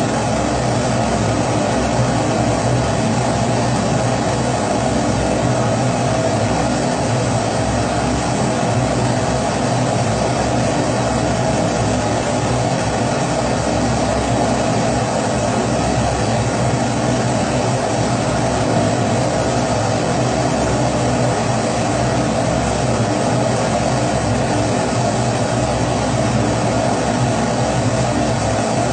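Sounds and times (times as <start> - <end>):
stove flame rushing: 0.0 - 28.9.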